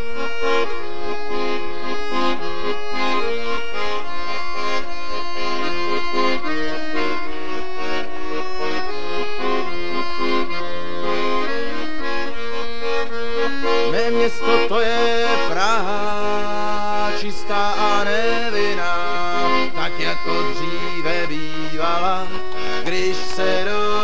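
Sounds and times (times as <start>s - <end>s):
accordion playing chords and melody: 0.0s - 24.0s.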